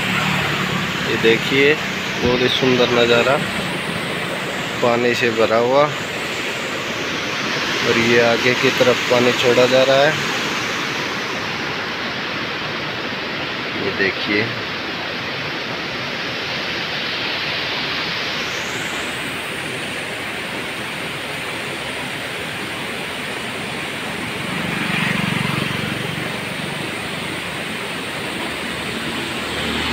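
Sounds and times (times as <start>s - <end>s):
water rushing through gates: 0.0s - 29.9s.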